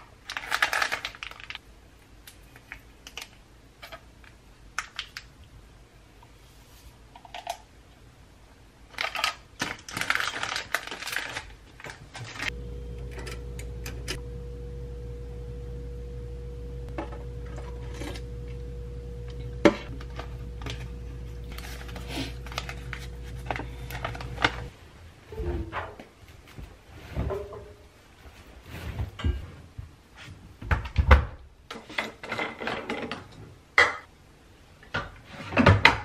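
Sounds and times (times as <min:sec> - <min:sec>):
low mechanical hum with thin tone: 0:00.0 - 0:31.8.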